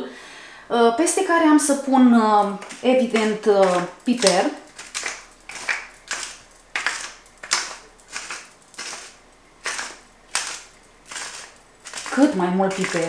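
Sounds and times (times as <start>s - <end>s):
pepper mill grinding: 1.8s - 13.0s.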